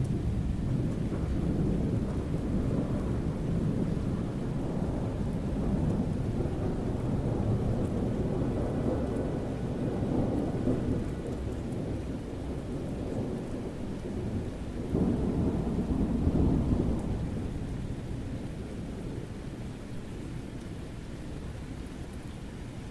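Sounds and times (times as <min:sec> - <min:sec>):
thunder rumbling: 0:00.0 - 0:19.6
steady rain: 0:00.0 - 0:22.9.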